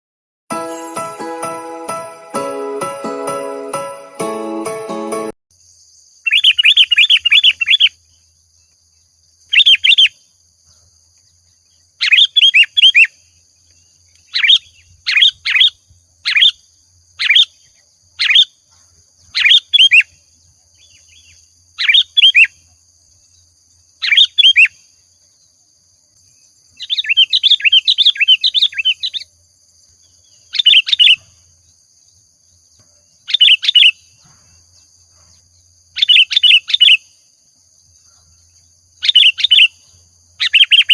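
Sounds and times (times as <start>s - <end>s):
bird chirping: 5.7s - 40.9s.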